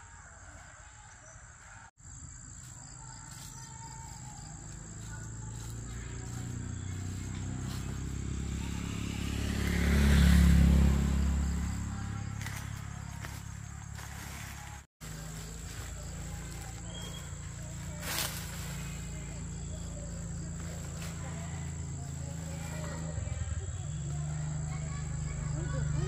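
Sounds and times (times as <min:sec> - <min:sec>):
high insect whine: 0:02.0 - 0:26.0
vehicle passing: 0:03.9 - 0:26.0.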